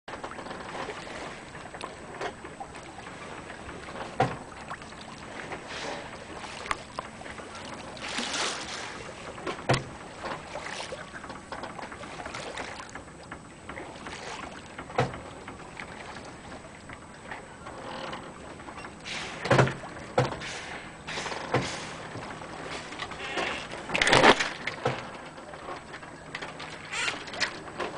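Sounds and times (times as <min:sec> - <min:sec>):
wind: 0:00.0 - 0:27.9
sea noise: 0:00.1 - 0:27.9.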